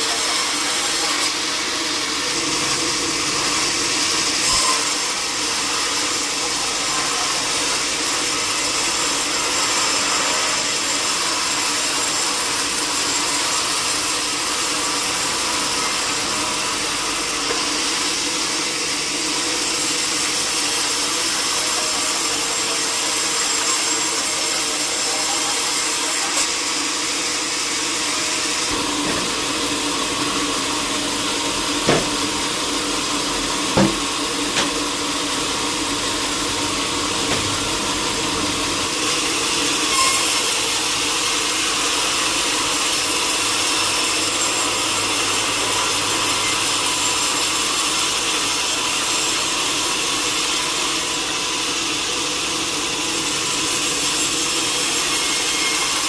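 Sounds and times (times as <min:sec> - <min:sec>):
sawmill saw hissing: 0:00.0 - 0:56.0.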